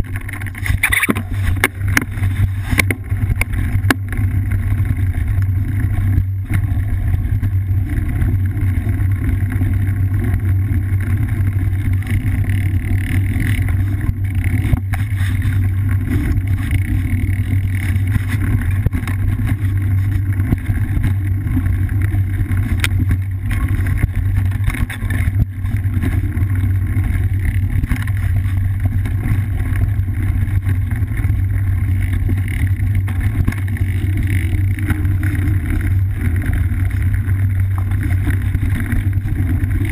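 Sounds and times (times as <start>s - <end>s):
bike riding on dirt trail rumble: 0.0s - 39.9s
wind noise on camera: 0.0s - 39.9s.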